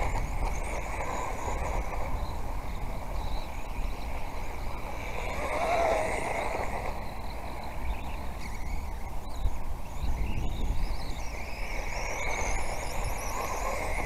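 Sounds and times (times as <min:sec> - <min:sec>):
toy car electric motors whining: 0:00.0 - 0:14.0
wind rumble on microphone: 0:00.0 - 0:14.0.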